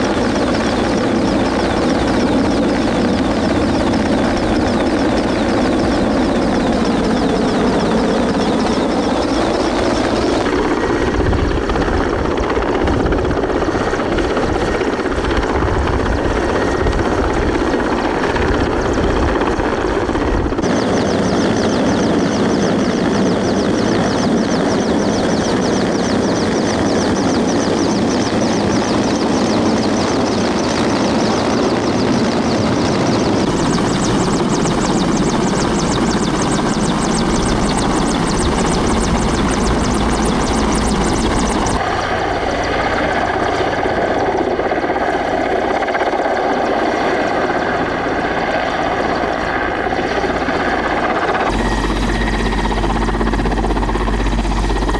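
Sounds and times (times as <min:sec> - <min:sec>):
helicopter rotor beating: 0:00.0 - 0:54.9.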